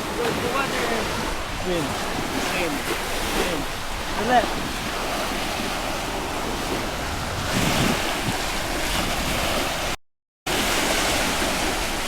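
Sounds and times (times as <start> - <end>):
wind buffeting microphone: 0.0 - 10.0
sea waves washing on shore: 0.0 - 12.0.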